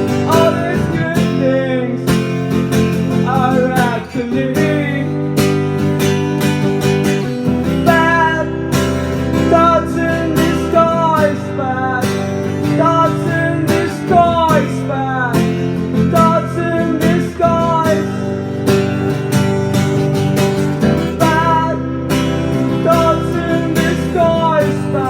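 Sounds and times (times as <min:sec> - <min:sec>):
person singing: 0:00.0 - 0:05.8, 0:07.2 - 0:19.6, 0:20.8 - 0:25.0
acoustic guitar strumming: 0:00.0 - 0:25.0.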